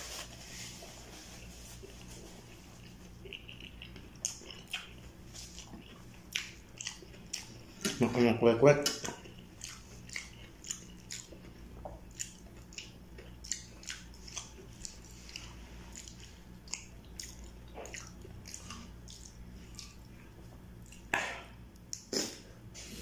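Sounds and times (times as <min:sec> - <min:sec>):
faint low hum: 0:00.0 - 0:23.0
chewing with wet smacks: 0:01.8 - 0:08.2, 0:08.8 - 0:22.2.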